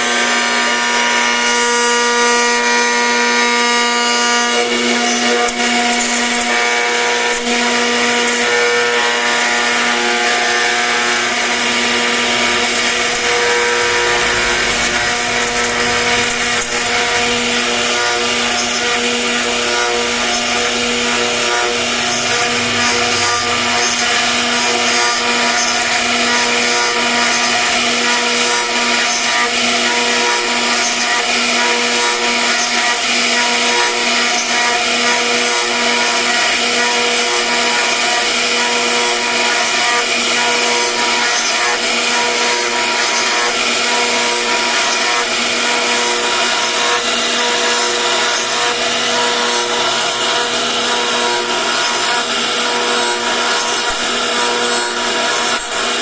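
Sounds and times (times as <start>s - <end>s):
router bit cutting wood: 0.0s - 56.0s
router spindle whining: 0.0s - 56.0s.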